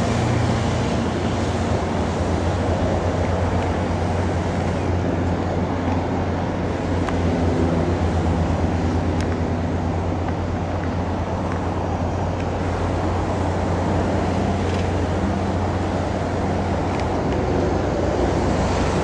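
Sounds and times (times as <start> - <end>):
distant engine machinery drone: 0.0 - 19.0.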